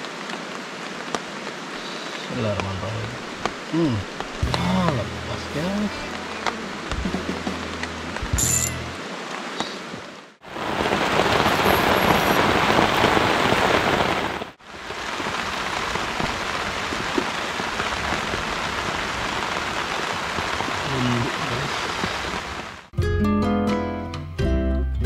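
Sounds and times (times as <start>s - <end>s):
heavy rain falling: 0.0s - 22.9s.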